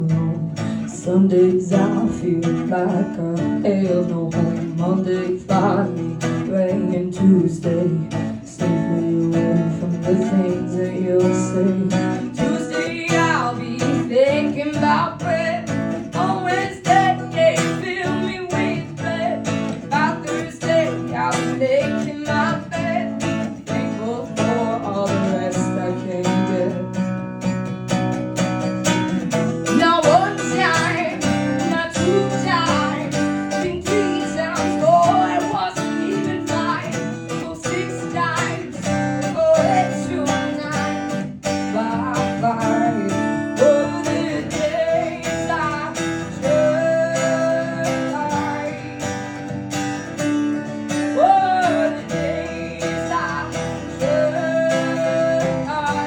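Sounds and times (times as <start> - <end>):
strummed guitar: 0.0 - 56.0.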